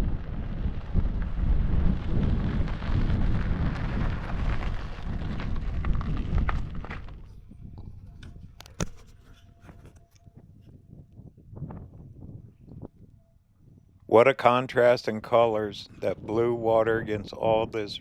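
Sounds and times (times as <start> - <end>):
wind buffeting microphone: 0.0 - 14.2, 15.2 - 18.0.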